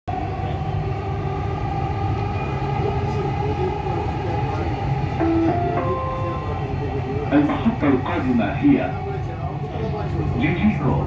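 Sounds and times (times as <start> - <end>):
train wheels rumbling on track: 0.1 - 11.0
train whine: 0.1 - 11.0.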